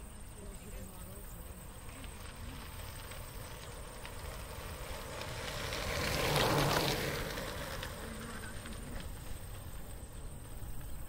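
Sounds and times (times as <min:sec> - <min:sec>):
bicycle tyres crunching on gravel: 0:00.0 - 0:11.0.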